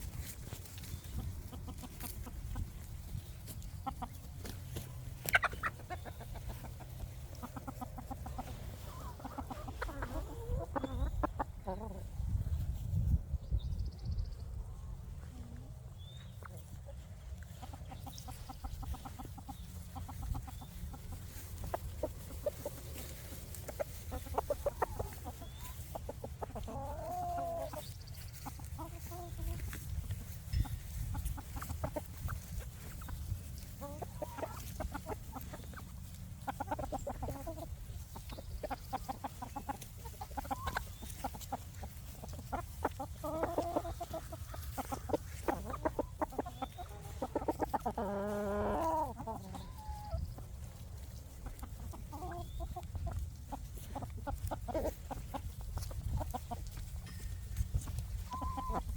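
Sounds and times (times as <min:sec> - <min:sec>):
chickens clucking: 0:00.0 - 0:58.9
drawn-out chicken calls: 0:00.0 - 0:58.9.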